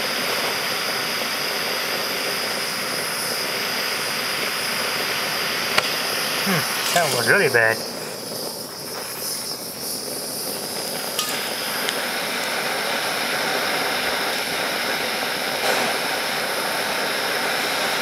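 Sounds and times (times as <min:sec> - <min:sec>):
blowtorch flame hissing: 0:00.0 - 0:18.0.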